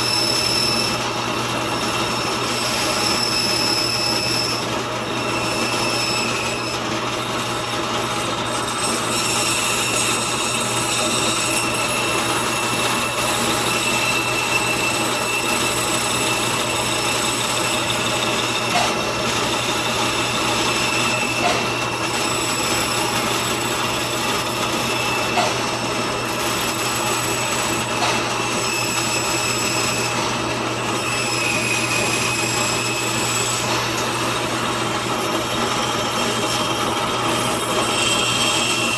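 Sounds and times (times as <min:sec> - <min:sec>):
band saw motor hum: 0:00.0 - 0:38.9
high blade whine: 0:00.0 - 0:38.9.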